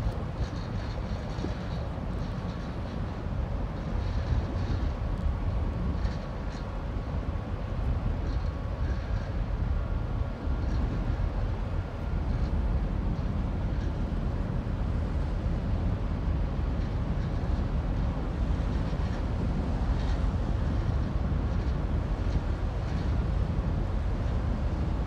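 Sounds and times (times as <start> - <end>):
ship machinery rumble: 0.0 - 25.0.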